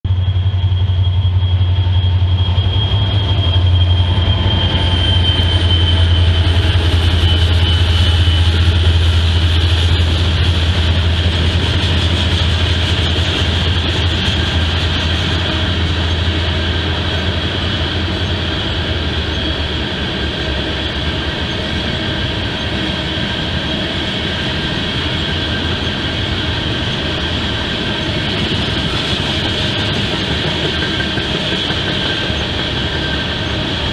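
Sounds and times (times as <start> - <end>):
train wheels rumbling on rail: 0.0 - 33.9
high wheel squeal: 0.1 - 33.9
locomotive engine hum: 0.1 - 33.9.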